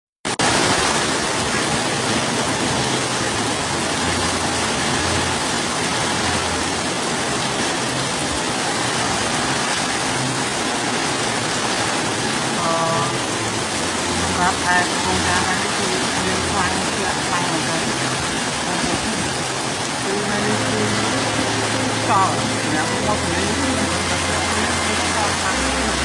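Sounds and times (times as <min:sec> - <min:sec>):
heavy rain pouring: 0:00.2 - 0:26.0.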